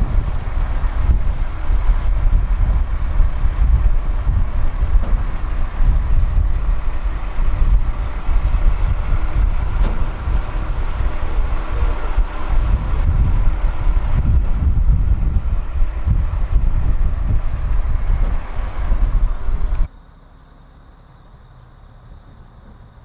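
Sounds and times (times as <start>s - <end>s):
boat engine rumbling: 0.0s - 23.0s.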